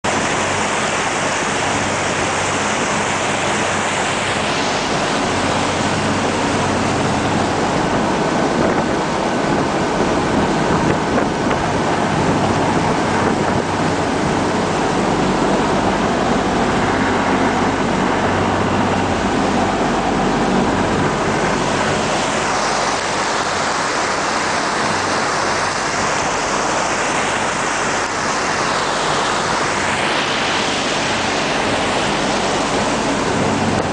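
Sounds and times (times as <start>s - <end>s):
engine hum: 0.0s - 33.9s
rushing wake water: 0.0s - 33.9s
wind buffeting microphone: 0.1s - 33.9s.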